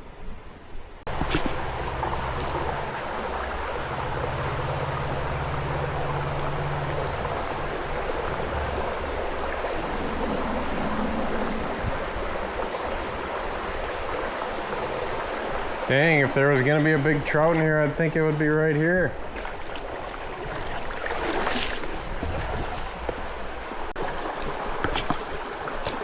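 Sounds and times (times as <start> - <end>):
creek water rushing: 1.1 - 26.0.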